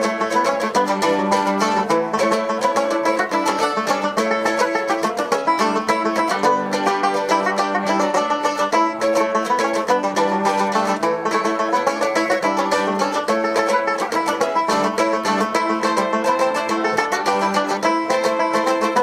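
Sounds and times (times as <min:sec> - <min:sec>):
plucked string instruments: 0:00.0 - 0:19.0.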